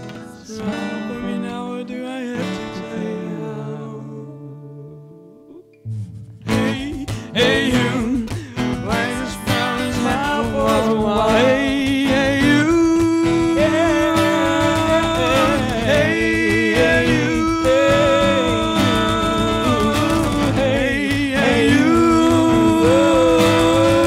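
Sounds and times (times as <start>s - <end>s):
singers in harmony: 0.0s - 5.3s, 6.5s - 24.0s
acoustic guitar: 0.0s - 24.0s
bass guitar: 4.6s - 24.0s.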